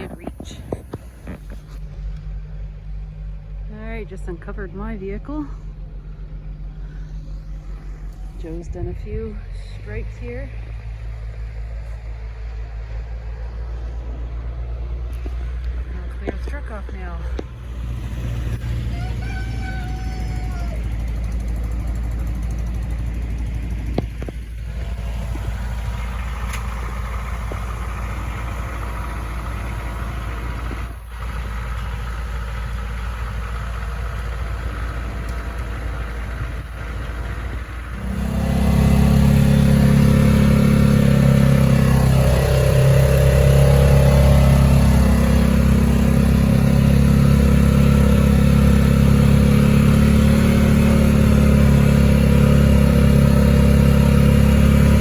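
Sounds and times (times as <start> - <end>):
engine rumble: 0.0 - 55.0
loud engine running: 0.0 - 55.0.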